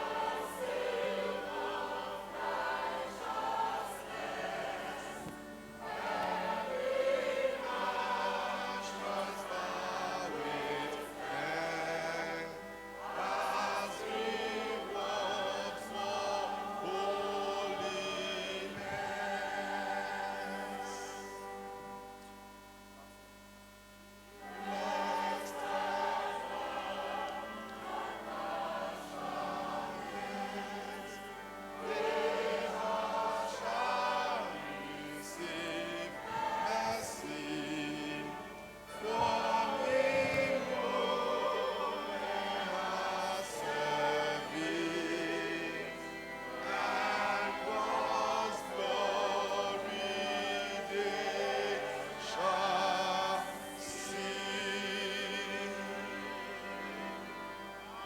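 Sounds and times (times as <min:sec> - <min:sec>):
choir singing: 0:00.0 - 0:22.6, 0:24.2 - 0:58.0.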